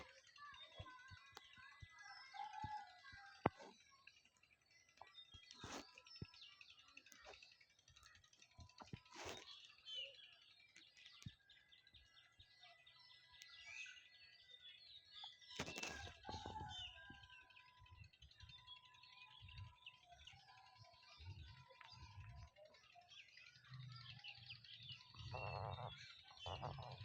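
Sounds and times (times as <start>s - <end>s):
small birds chirping faintly: 0.0s - 27.0s.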